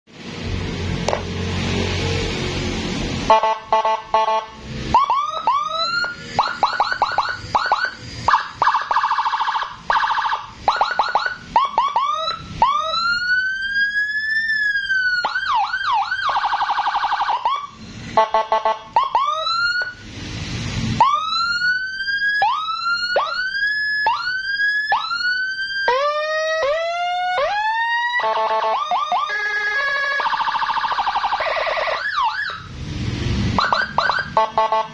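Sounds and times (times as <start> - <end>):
electronic police siren: 3.3 - 20.1, 20.9 - 32.7, 33.6 - 34.9.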